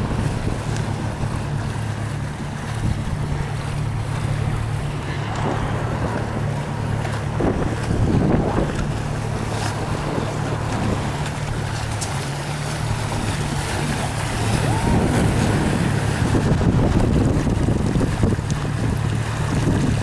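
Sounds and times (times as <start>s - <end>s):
motorboat engine hum: 0.0s - 20.0s
water rushing past hull: 0.0s - 20.0s
wind buffeting microphone: 0.0s - 20.0s.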